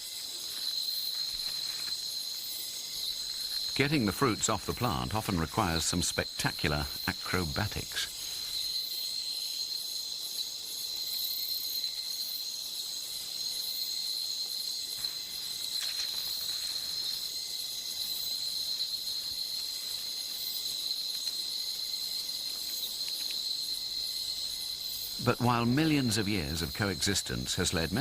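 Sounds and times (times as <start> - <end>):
crickets trilling: 0.0 - 28.0
insects buzzing: 0.0 - 28.0.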